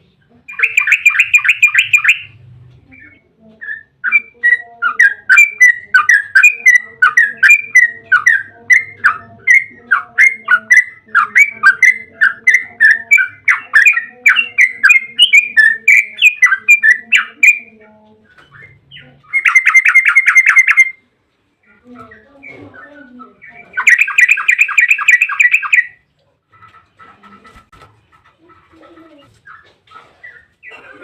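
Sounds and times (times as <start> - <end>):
bulbul chattering song: 0.4 - 27.7
bird trill: 0.5 - 21.0, 21.6 - 26.0.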